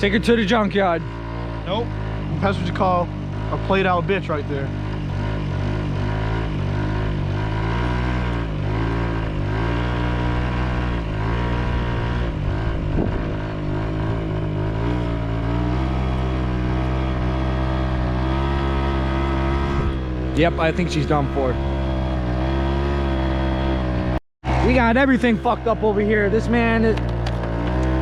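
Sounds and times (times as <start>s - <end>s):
moped engine revving: 0.0s - 28.0s.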